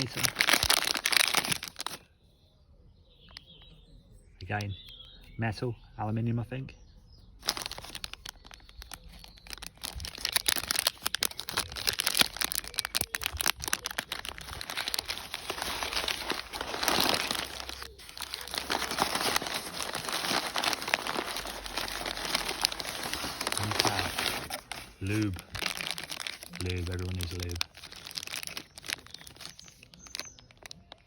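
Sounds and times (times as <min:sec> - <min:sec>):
packaging rustling and crinkling: 0:00.0 - 0:02.0, 0:07.4 - 0:31.0.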